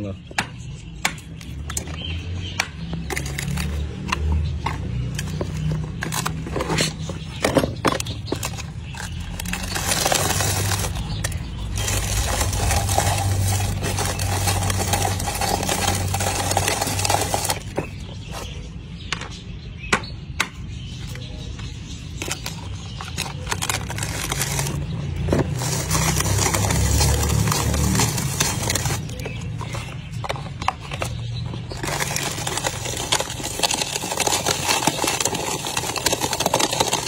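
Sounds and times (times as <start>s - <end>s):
plastic containers clicking: 1.3s - 18.5s, 22.1s - 37.0s.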